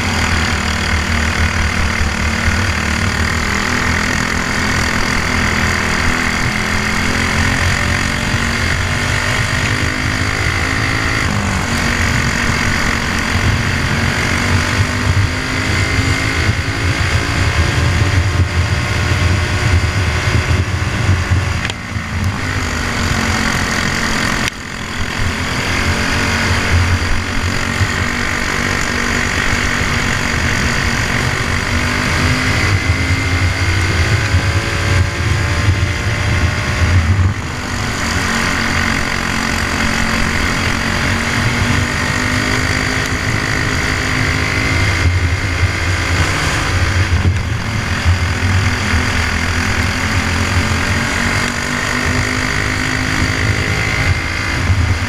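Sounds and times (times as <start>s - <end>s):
kart engine running flat out: 0.0s - 55.0s.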